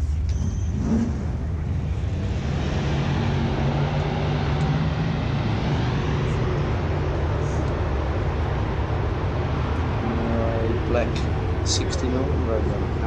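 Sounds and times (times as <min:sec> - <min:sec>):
car engine running at low revs: 0:00.0 - 0:13.0
steady outdoor hiss: 0:00.0 - 0:13.0.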